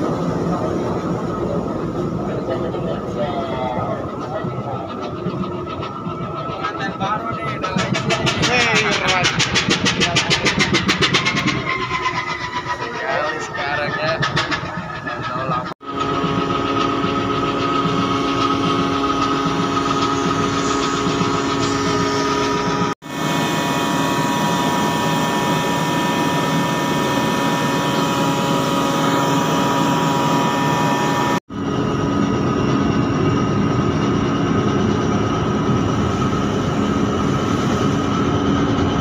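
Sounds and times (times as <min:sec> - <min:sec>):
steady tones: 0:00.0 - 0:39.0
winch machinery drone: 0:00.0 - 0:39.0.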